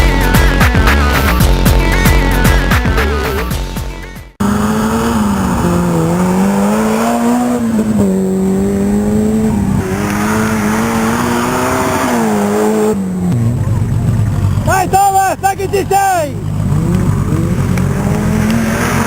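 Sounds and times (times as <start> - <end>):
off-road engine revving: 0.0 - 3.8, 4.4 - 19.0.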